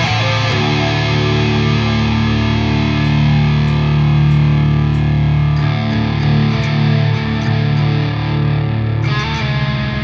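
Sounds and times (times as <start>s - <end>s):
distorted electric guitar chords: 0.0s - 10.0s.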